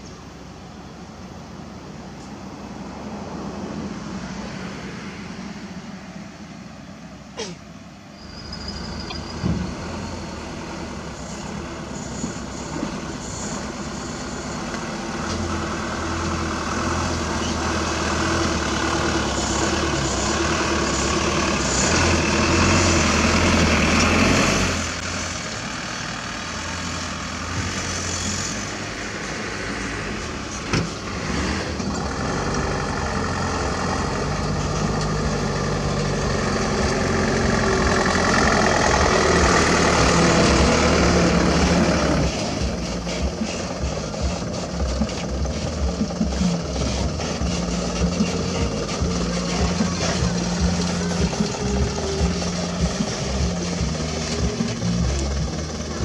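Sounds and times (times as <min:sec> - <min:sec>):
diesel truck engines: 0:00.0 - 0:56.0.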